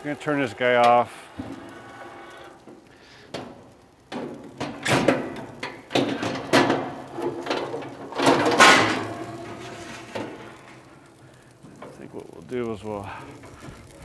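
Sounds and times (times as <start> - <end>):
metal scraping and clanking on grill: 0.0 - 14.0.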